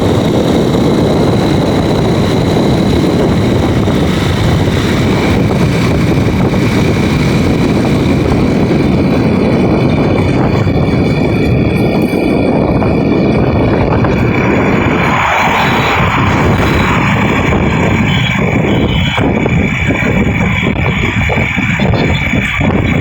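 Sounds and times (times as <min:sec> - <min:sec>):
motorcycle engine running: 0:00.0 - 0:23.0
road noise: 0:00.0 - 0:23.0
wind rush: 0:00.0 - 0:23.0.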